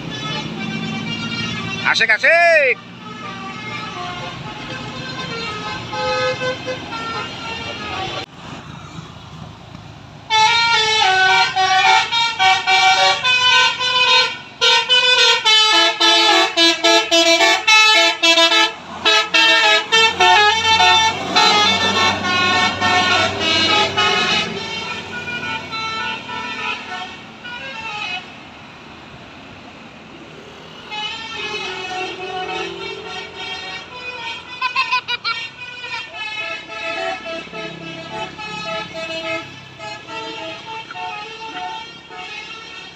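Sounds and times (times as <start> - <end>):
bus engine rumbling: 0.0 - 42.9
trumpet horns playing a tune: 3.0 - 8.2, 10.3 - 28.3, 30.9 - 42.9.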